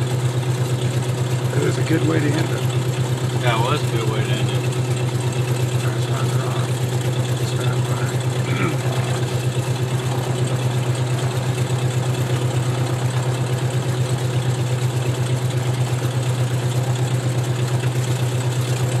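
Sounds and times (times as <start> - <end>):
airplane piston engine idling: 0.0 - 19.0.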